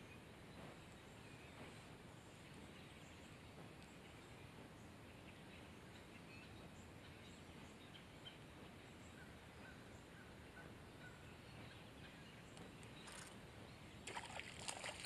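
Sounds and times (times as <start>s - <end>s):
faint lakeside ambience: 0.0s - 15.0s.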